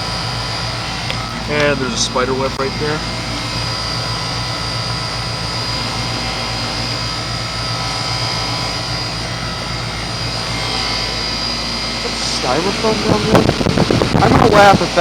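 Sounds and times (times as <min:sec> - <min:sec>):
compressor humming: 0:00.0 - 0:15.0
condenser fan drone: 0:00.0 - 0:15.0
faint high whine: 0:00.0 - 0:15.0.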